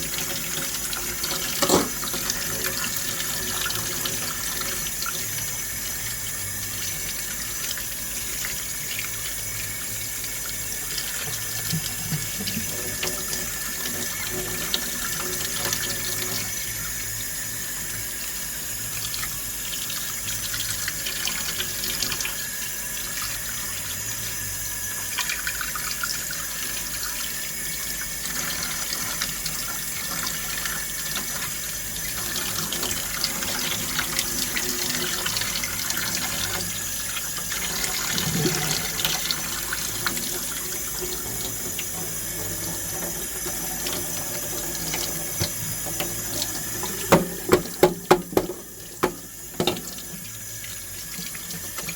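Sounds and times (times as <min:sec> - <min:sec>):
water running from a tap: 0:00.0 - 0:51.9.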